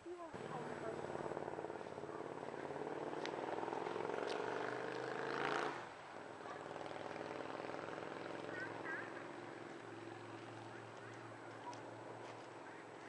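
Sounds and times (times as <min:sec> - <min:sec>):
engine running: 0:00.1 - 0:13.0.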